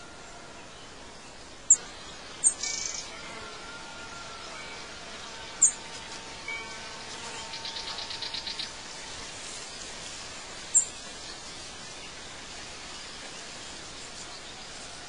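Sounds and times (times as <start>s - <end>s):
lower bird chirp: 0.0s - 14.8s
steady hiss: 0.0s - 15.0s.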